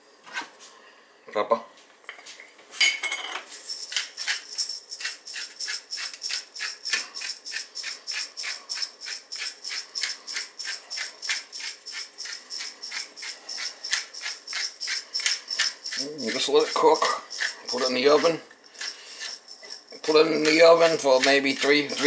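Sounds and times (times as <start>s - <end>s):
pepper shaker rattling: 3.5s - 22.0s.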